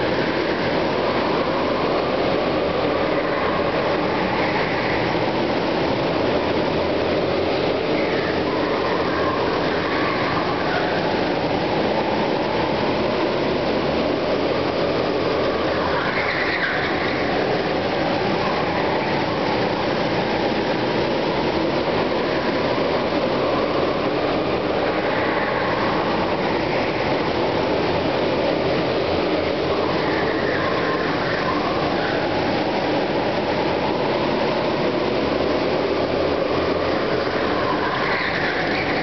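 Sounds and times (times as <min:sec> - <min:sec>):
go-kart engines droning: 0:00.0 - 0:39.0.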